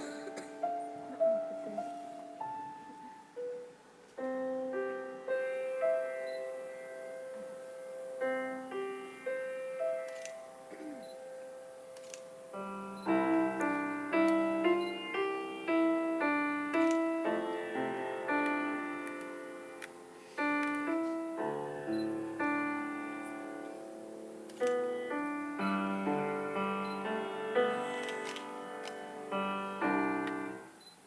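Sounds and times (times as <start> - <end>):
slow solo piano melody: 0.0 - 31.0.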